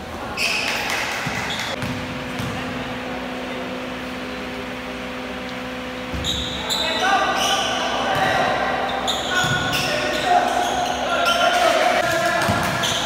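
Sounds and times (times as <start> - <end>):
steady hum in large hall: 0.0 - 13.0.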